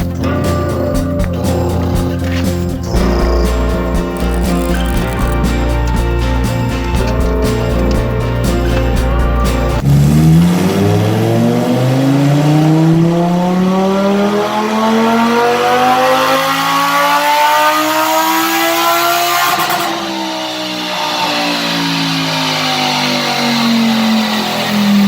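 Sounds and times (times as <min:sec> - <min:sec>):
sports car engine accelerating: 0:01.0 - 0:25.0.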